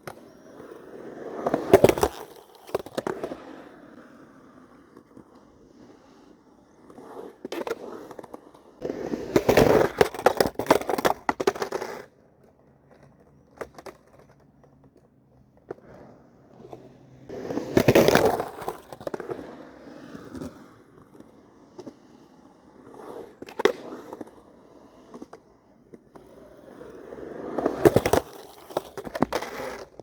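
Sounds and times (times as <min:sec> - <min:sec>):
skateboard grinding: 0:00.0 - 0:30.0
skateboard wheels rolling: 0:00.0 - 0:30.0.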